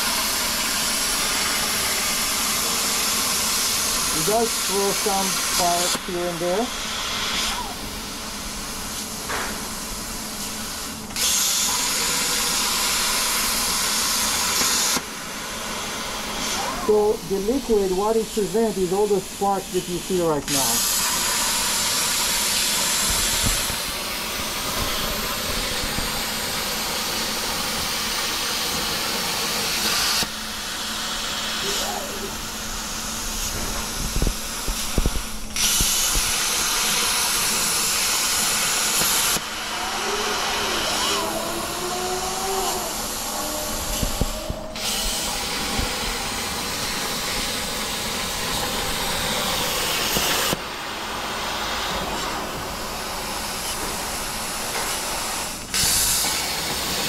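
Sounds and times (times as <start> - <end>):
plasma cutter hissing: 0.0 - 57.0.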